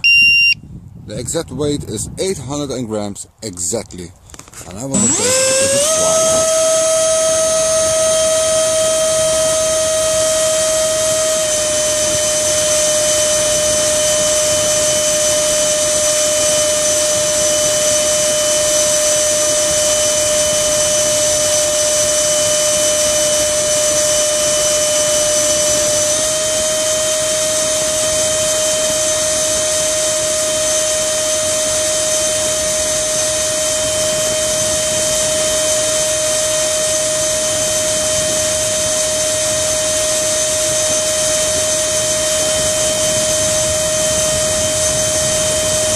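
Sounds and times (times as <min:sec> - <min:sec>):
electric ducted fan whining: 0:00.0 - 0:45.9.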